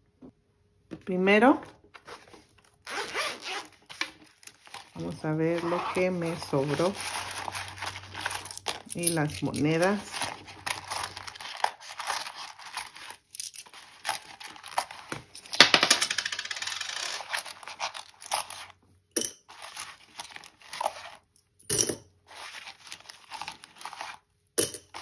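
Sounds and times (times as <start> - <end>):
paper and banknotes rustling: 1.9 - 18.8, 19.4 - 21.4, 22.2 - 25.0.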